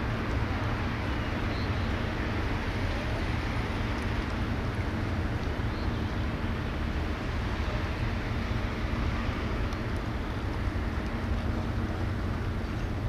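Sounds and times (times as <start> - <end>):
harbour ambience rumble and hiss: 0.0 - 13.0.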